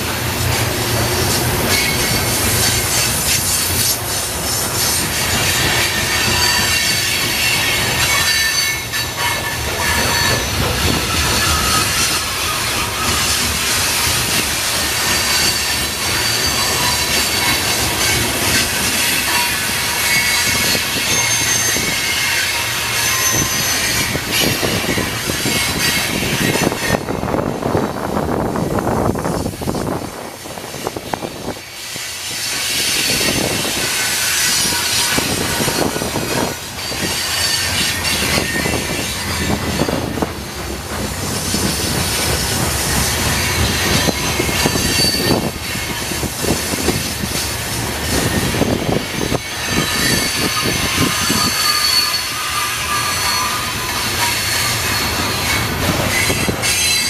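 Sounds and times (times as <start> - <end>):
freight train wheels clicking: 0.0 - 57.0
high-pitched wheel squeals: 1.7 - 27.4, 32.2 - 40.3, 43.2 - 57.0.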